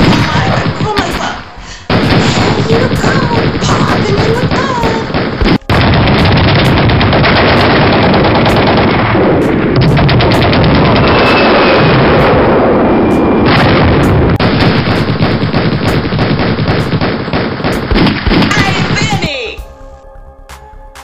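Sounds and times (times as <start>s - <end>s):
rapid machine-gun fire: 0.0s - 12.5s, 13.5s - 19.3s
heavy booms: 0.0s - 19.2s.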